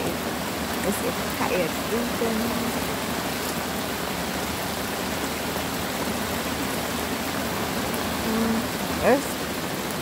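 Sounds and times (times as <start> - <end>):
rain on an umbrella: 0.0 - 10.0.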